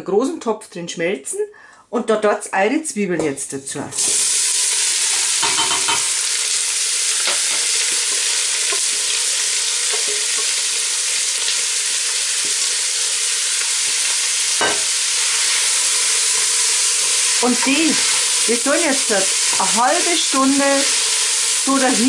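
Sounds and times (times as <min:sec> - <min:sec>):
onions sizzling in butter: 0:04.0 - 0:22.0.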